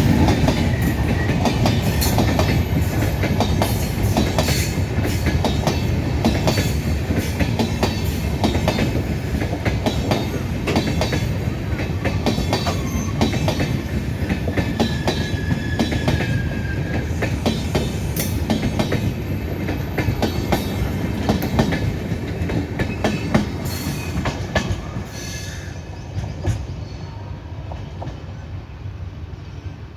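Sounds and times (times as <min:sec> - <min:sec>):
train wheels clicking over rail joints: 0:00.0 - 0:26.9
train rumble: 0:00.0 - 0:29.9.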